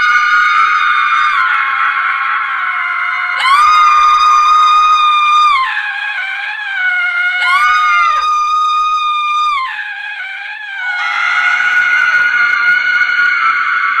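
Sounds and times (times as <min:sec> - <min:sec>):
woman screaming: 0:00.0 - 0:13.5.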